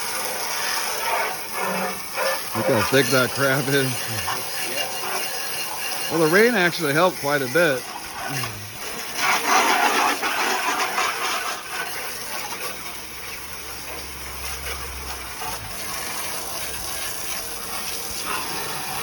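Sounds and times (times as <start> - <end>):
water spraying on car: 0.0 - 19.0.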